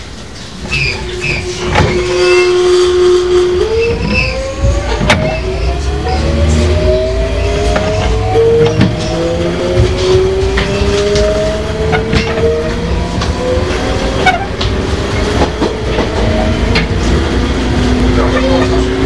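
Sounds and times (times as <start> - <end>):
wheel and rail rumble: 0.0 - 19.0
electric train motor whine: 0.1 - 19.0
rail joint clicks: 3.3 - 18.8.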